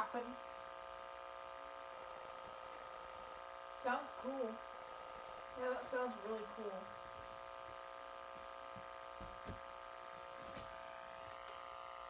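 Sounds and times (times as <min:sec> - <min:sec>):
electronic drone from radio: 0:00.0 - 0:12.0.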